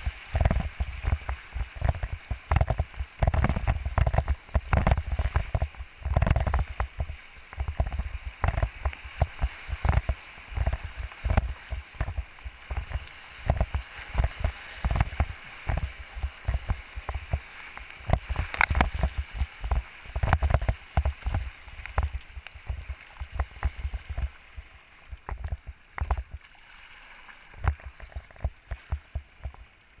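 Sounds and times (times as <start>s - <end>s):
river rapids rushing and splashing: 0.0s - 28.5s
water and wind thumping microphone: 0.0s - 30.0s.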